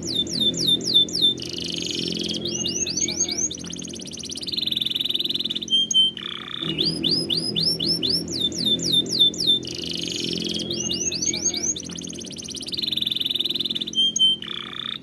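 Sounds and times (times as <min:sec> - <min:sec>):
canary singing: 0:00.0 - 0:15.0
steady low hum: 0:00.0 - 0:15.0.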